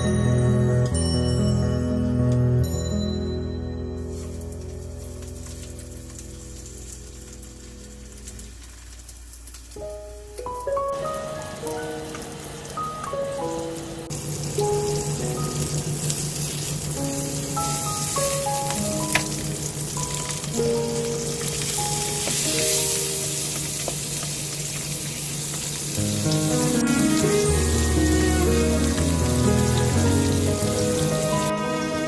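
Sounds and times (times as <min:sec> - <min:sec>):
fish sizzling in hot oil: 0:04.0 - 0:32.0.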